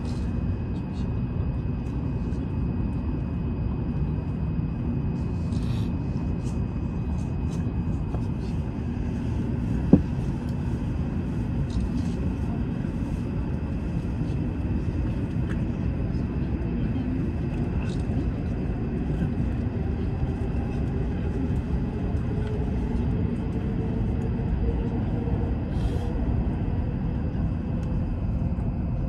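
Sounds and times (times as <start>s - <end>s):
train cabin low rumble: 0.0s - 29.0s.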